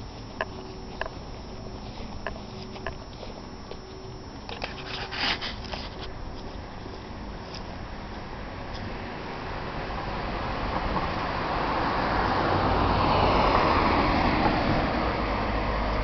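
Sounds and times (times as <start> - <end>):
car approaching: 0.0 - 16.0.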